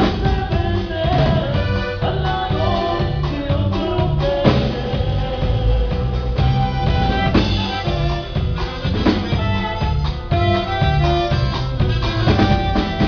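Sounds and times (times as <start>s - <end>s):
bass notes: 0.0s - 13.0s
drums keeping a steady beat: 0.0s - 13.0s
held melody line: 0.0s - 13.0s.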